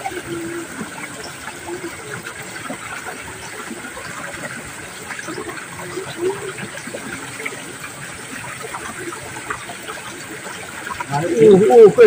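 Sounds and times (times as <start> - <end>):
water rushing along a channel: 0.0 - 12.0.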